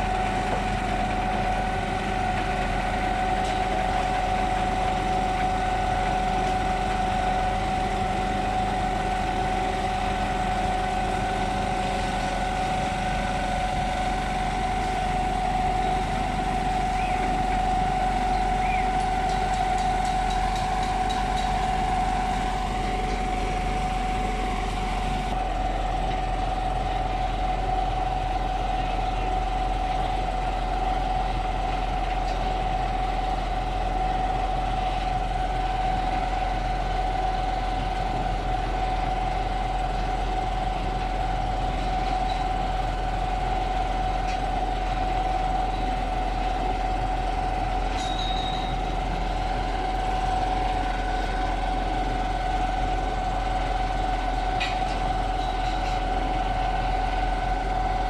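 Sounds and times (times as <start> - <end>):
diesel engine and hydraulics drone: 0.0 - 58.0.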